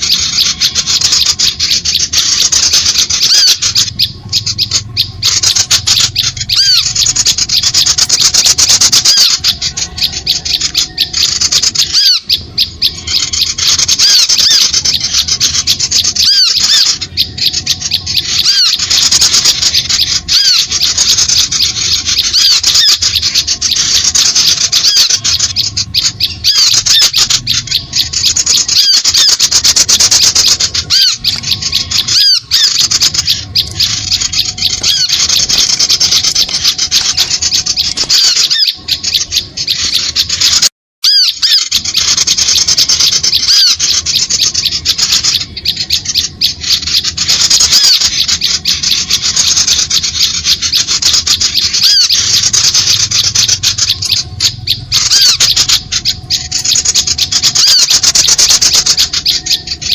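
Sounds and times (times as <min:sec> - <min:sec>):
small birds chirping and squeaking: 0:00.0 - 0:59.9.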